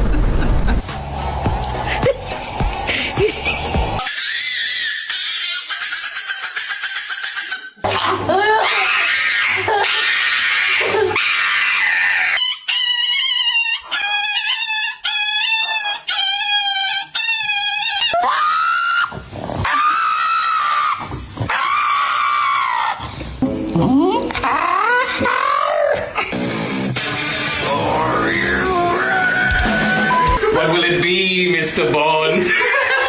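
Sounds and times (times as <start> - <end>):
dogs crying and wailing: 1.9 - 23.2, 23.9 - 26.3, 27.6 - 30.8, 32.5 - 33.0.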